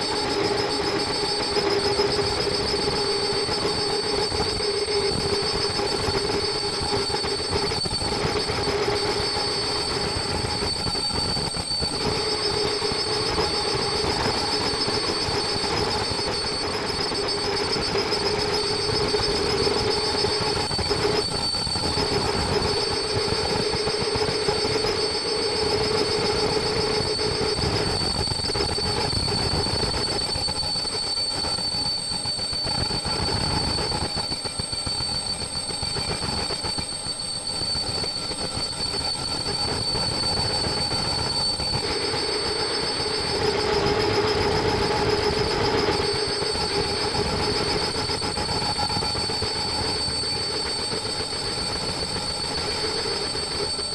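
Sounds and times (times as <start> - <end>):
high steady machine whines: 0.0 - 53.9
production line mechanical noise: 0.0 - 53.9.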